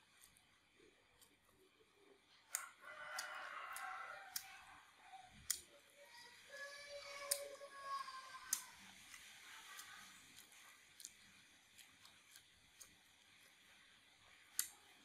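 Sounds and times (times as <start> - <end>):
faint drawn-out pitched sounds: 0.0 - 15.0.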